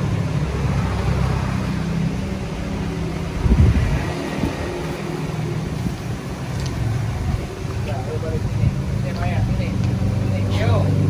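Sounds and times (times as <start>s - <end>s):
engine rumble: 0.0s - 11.0s
vehicle engine humming: 0.0s - 11.0s.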